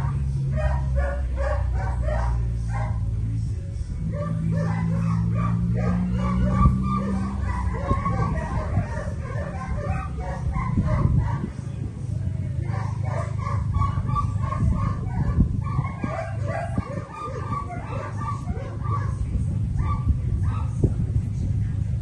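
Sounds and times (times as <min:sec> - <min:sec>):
dogs barking and whining: 0:00.0 - 0:03.1, 0:04.0 - 0:11.6, 0:12.6 - 0:20.8
low rumble: 0:00.0 - 0:22.0.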